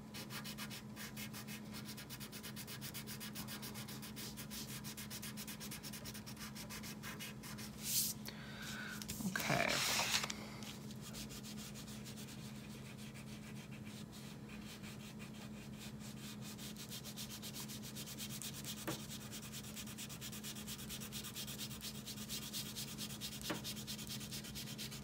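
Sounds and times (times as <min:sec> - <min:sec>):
faint low hum: 0:00.1 - 0:21.9
crayon scratching on paper: 0:00.2 - 0:08.0, 0:11.0 - 0:25.0.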